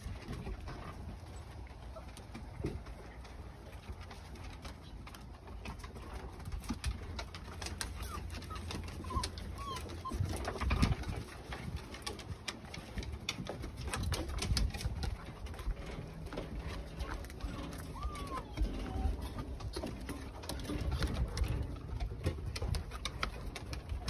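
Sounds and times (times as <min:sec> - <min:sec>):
dog claws on wooden boards: 0:02.2 - 0:24.0.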